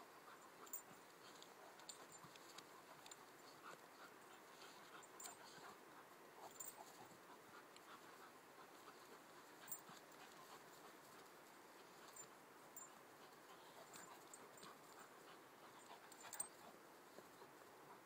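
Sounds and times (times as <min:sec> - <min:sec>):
dogs panting: 0:00.0 - 0:18.0.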